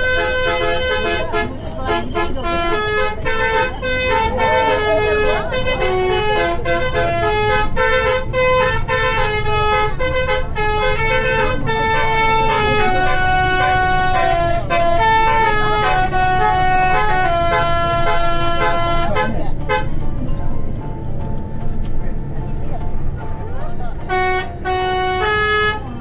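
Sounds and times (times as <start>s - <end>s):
bus horn playing a tune: 0.0s - 20.8s, 23.7s - 26.0s
bus engine rumble: 0.0s - 26.0s.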